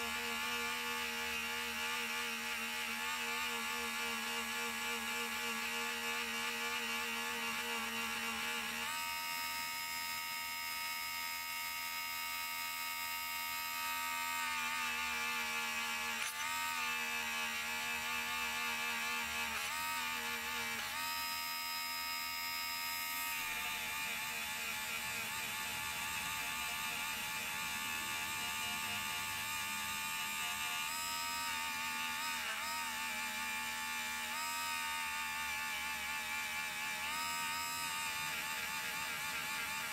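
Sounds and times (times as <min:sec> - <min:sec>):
rotary tool whining: 0:00.0 - 0:39.9.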